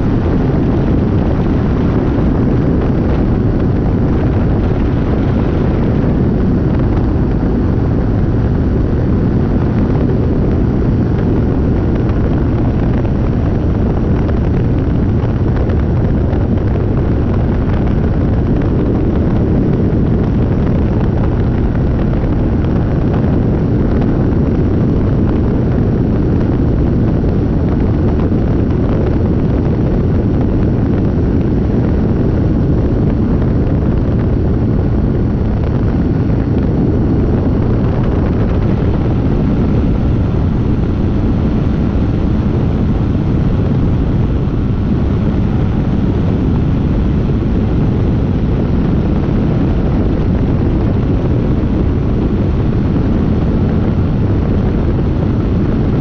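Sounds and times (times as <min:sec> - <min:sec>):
aircraft engine drone: 0:00.0 - 0:56.0
wind rushing over microphone: 0:00.0 - 0:56.0.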